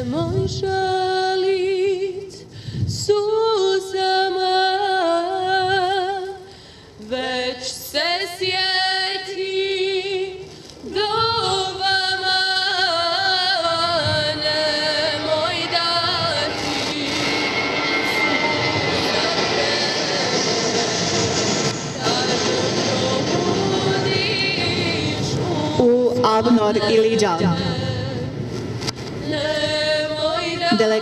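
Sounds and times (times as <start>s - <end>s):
woman singing slow song: 0.0s - 20.9s, 22.0s - 28.4s, 29.2s - 31.0s.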